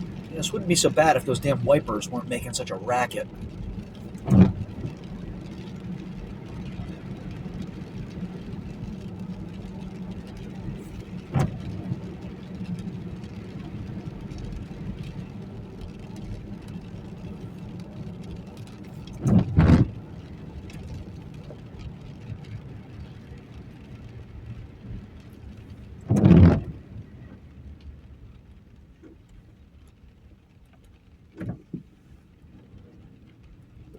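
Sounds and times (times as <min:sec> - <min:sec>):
windshield wipers sweeping: 0:00.0 - 0:27.6, 0:30.8 - 0:33.9
car road and engine noise: 0:00.0 - 0:33.9.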